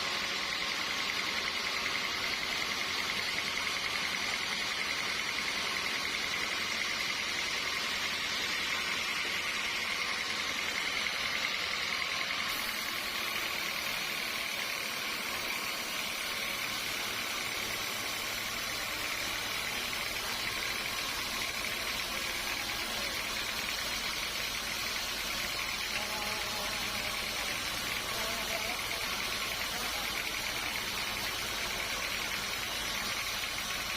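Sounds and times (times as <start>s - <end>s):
sawmill saw running: 0.0s - 33.9s.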